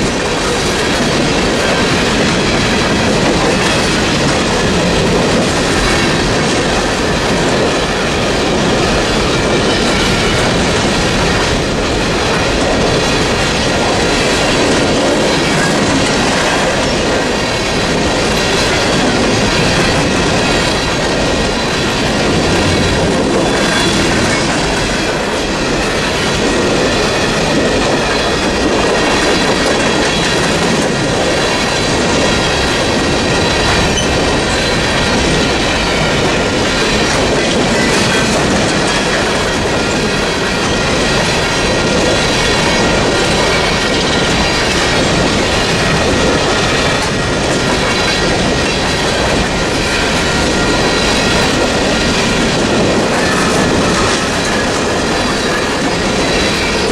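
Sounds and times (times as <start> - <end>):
freight train rolling past: 0.0 - 56.9
wheels clacking over rail joints: 0.0 - 56.9.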